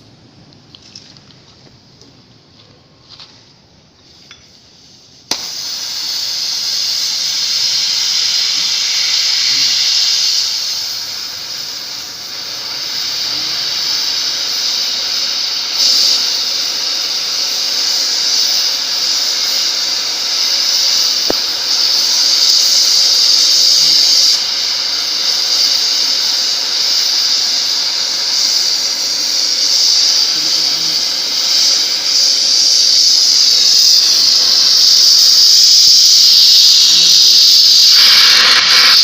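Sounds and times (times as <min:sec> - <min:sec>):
cutting torch flame hissing: 0:03.0 - 0:39.0.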